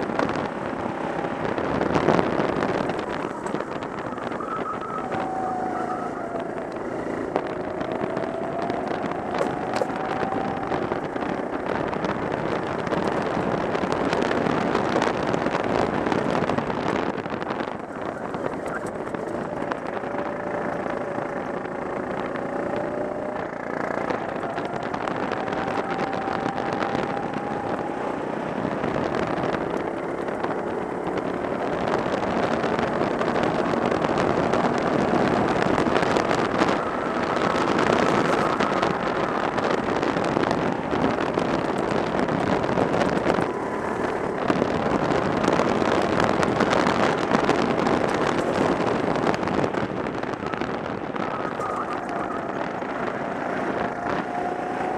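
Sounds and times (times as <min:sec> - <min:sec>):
go-kart engine running hard: 0:00.0 - 0:54.9
wind rushing over microphone: 0:00.0 - 0:54.9.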